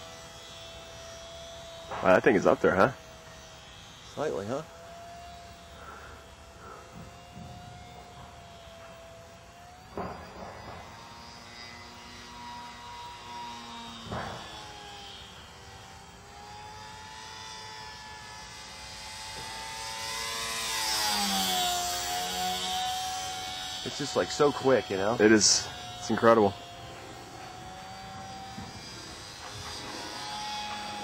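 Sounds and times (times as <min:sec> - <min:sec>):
model airplane motor droning: 0:00.0 - 0:31.0.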